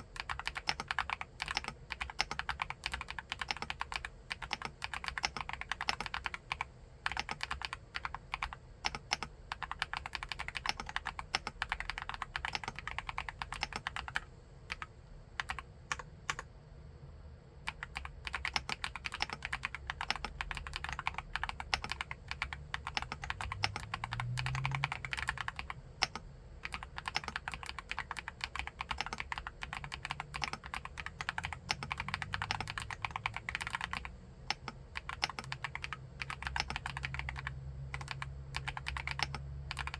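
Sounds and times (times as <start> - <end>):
mechanical keyboard typing: 0.0 - 16.4, 17.7 - 39.9.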